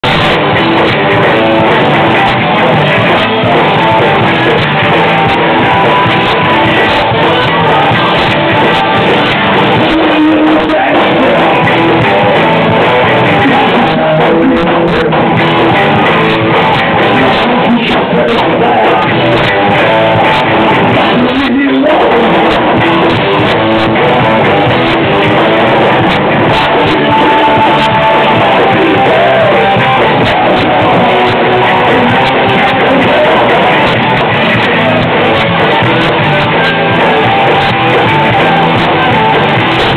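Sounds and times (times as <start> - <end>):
live rock band with guitars: 0.0 - 39.9.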